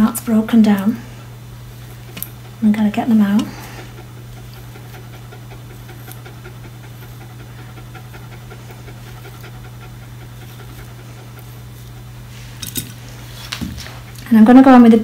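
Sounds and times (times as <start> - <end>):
steady low hum: 0.0 - 15.0
dog panting quickly: 1.7 - 14.9.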